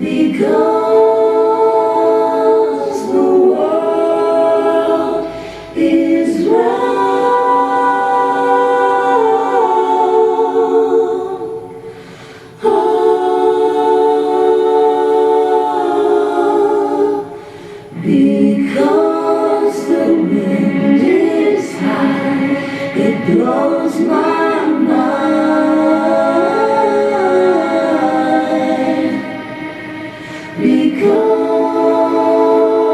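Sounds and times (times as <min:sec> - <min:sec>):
a cappella choir singing: 0:00.0 - 0:32.9.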